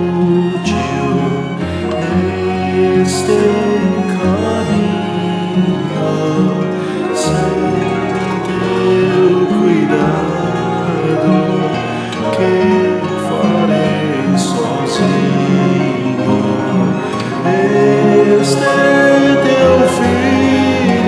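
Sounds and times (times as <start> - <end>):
choir singing a hymn: 0.0 - 21.0
instrumental accompaniment: 0.0 - 21.0.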